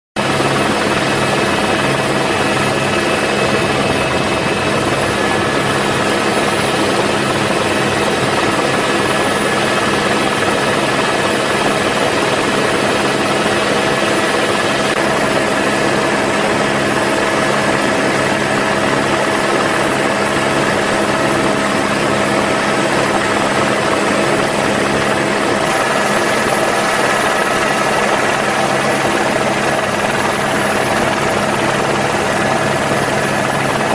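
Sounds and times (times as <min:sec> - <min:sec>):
helicopter turbine and rotor: 0:00.2 - 0:33.9.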